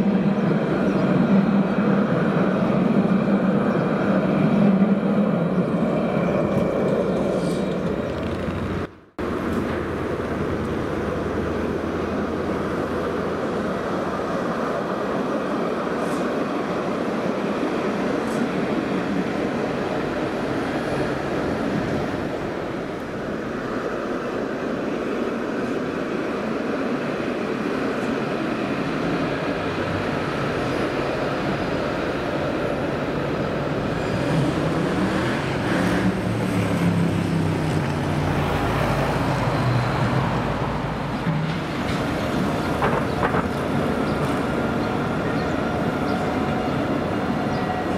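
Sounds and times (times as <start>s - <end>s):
road traffic noise: 0.0s - 47.9s
tram rolling on tracks: 0.0s - 47.9s.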